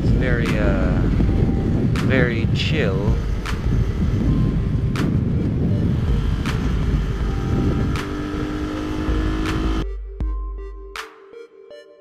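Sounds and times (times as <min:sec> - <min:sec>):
motorcycle engine running: 0:00.0 - 0:09.8
wind rush over microphone: 0:00.0 - 0:09.8
steady tone: 0:00.1 - 0:09.8.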